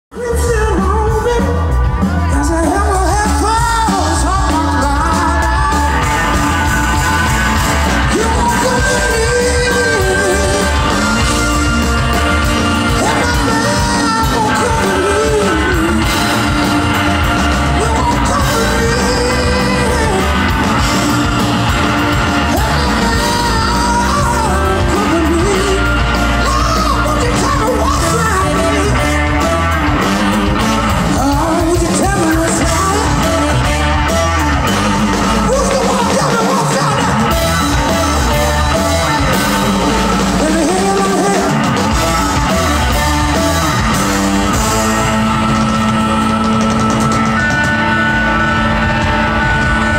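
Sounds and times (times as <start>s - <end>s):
live rock band: 0.1s - 49.9s
man singing: 0.1s - 49.9s.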